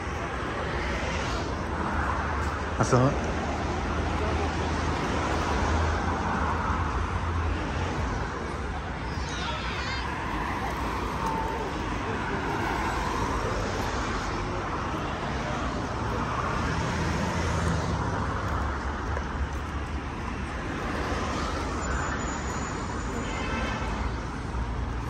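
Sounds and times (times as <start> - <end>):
cars passing on road: 0.0 - 25.0.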